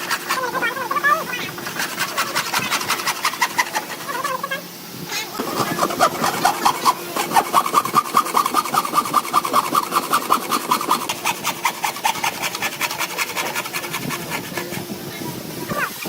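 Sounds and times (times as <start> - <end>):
hand tool scraping wood: 0.0 - 4.4, 5.4 - 15.8.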